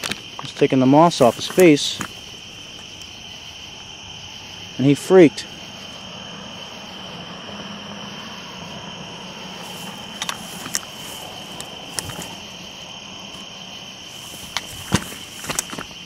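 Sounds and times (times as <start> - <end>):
crickets calling: 0.0 - 16.0.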